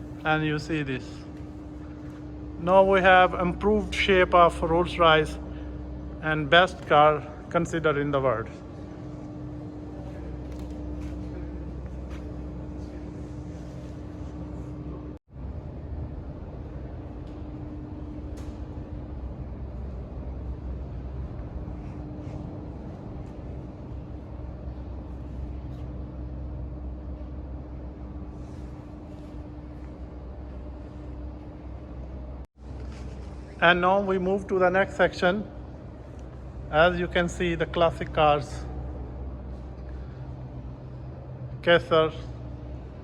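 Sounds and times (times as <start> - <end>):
indoor room hum: 0.0 - 43.0.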